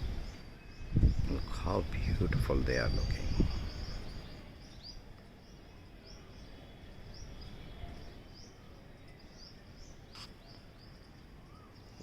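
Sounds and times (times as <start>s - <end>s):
low outdoor background noise: 0.0s - 12.0s
small bird chirping: 0.0s - 12.0s.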